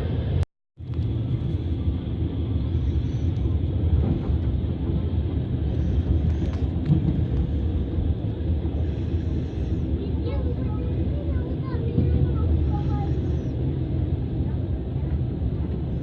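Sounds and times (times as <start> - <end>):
train carriage rumbling on rails: 0.0 - 16.0.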